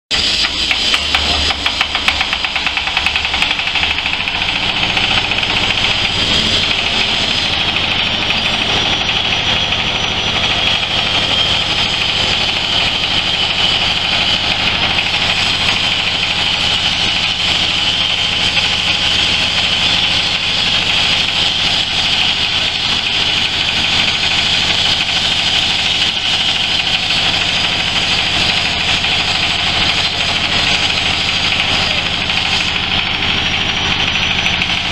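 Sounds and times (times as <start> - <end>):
diesel engine running: 0.1 - 34.9
hammer mill whirring hiss: 0.1 - 34.9.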